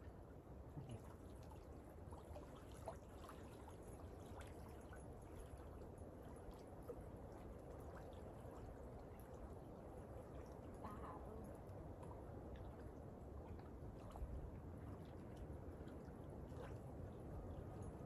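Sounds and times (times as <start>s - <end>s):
small waves lapping at shore: 0.0s - 18.0s.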